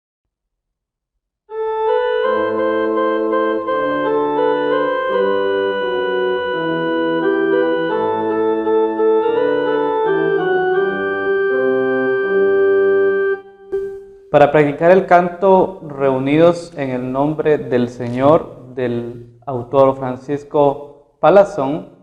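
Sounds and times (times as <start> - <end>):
electronic keyboard organ chords: 1.5 - 19.4.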